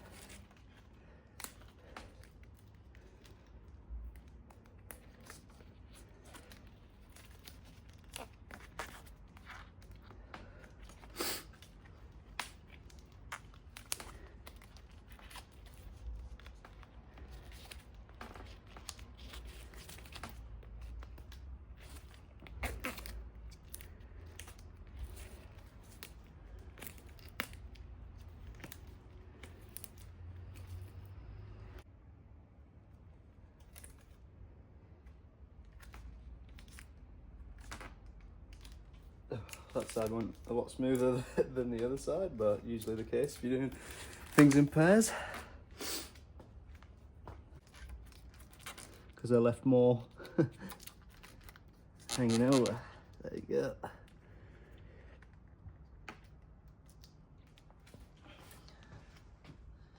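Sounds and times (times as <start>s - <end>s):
handlebar tape crinkling and tearing: 0.0s - 31.0s, 33.5s - 34.3s, 35.0s - 54.2s.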